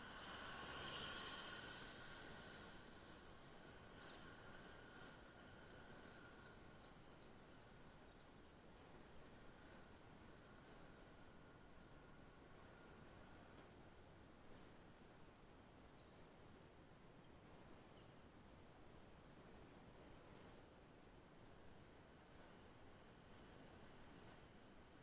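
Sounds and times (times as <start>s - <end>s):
faint hiss: 0.0s - 25.0s.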